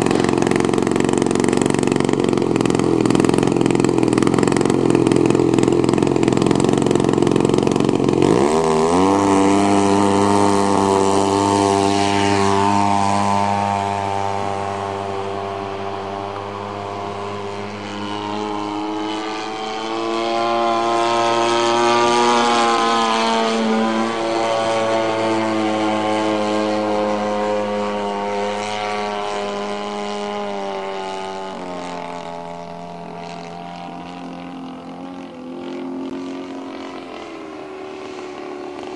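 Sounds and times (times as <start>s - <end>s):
model plane engine: 0.0s - 38.9s.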